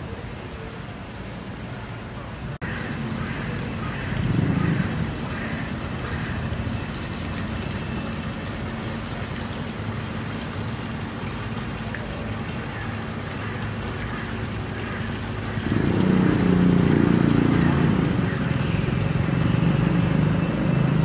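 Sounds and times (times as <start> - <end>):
city traffic hum: 0.0 - 21.0
fountain splashing into stone basin: 0.0 - 21.0.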